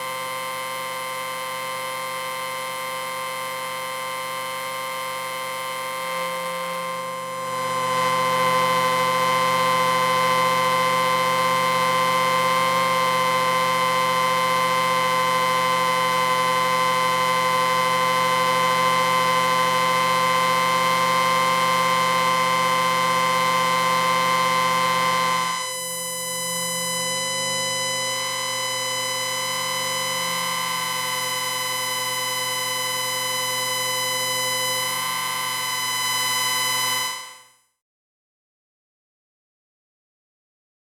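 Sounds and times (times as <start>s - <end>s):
harsh electrical buzzing drone: 0.0s - 37.3s.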